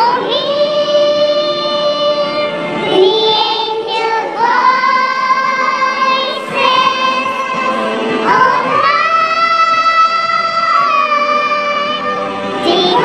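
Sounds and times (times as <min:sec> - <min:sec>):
worship song singing: 0:00.0 - 0:13.0.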